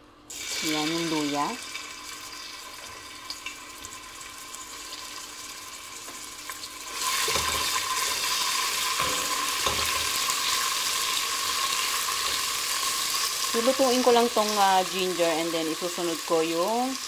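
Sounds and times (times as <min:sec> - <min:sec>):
ginger frying in hot oil: 0:00.3 - 0:17.0.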